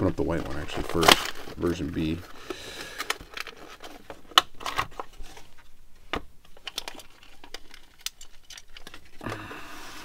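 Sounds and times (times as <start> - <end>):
plastic blister pack crackling: 0.0 - 5.4, 6.5 - 9.5.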